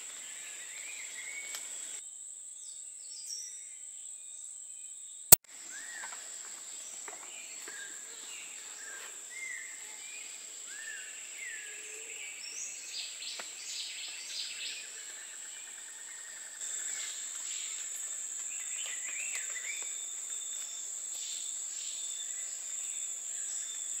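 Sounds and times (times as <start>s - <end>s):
insect drone: 0.0s - 24.0s.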